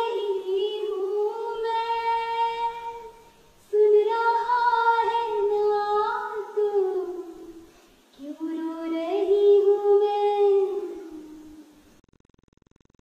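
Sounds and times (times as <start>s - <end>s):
girl singing unaccompanied: 0.0s - 11.8s.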